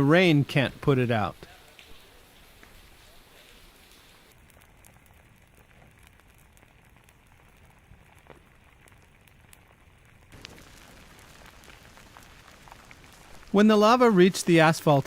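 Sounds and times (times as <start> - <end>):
faint rain falling: 0.0 - 15.0
soft ticks and crackles: 1.4 - 13.6.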